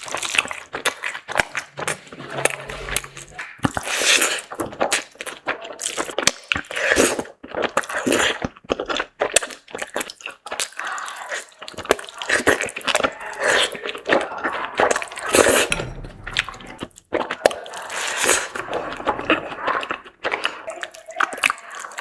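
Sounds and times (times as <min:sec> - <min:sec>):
chewing and crunching: 0:00.0 - 0:01.8, 0:03.7 - 0:15.9, 0:16.9 - 0:22.0.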